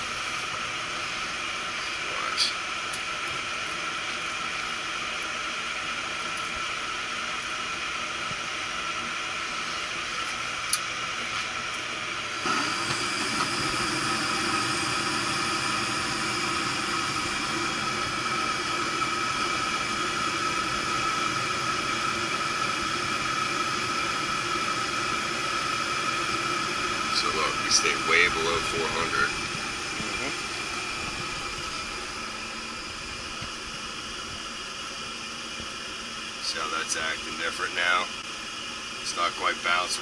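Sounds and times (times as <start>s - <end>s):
furnace fan hum and whine: 0.0s - 40.0s
gas burners rushing: 0.0s - 40.0s.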